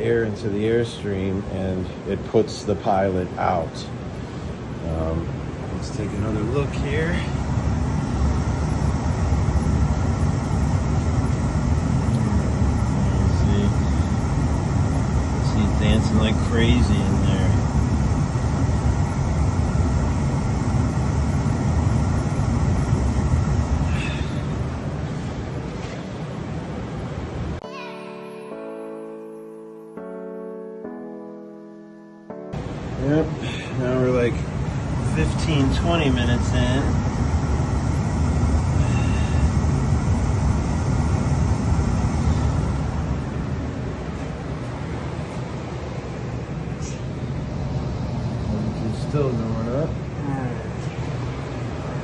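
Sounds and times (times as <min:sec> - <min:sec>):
furnace burner and blower rumble: 0:00.0 - 0:27.6, 0:32.6 - 0:52.0.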